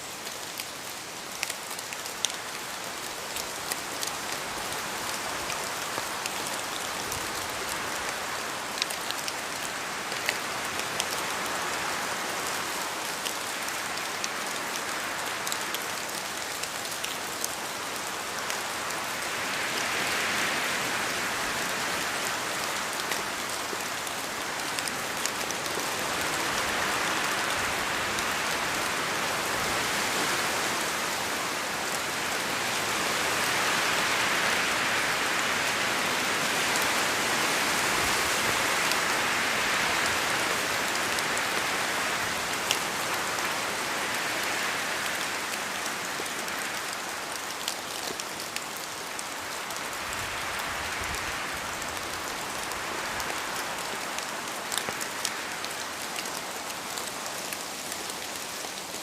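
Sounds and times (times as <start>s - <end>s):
rain pattering on leaves: 0.0s - 59.0s
wind: 0.0s - 59.0s.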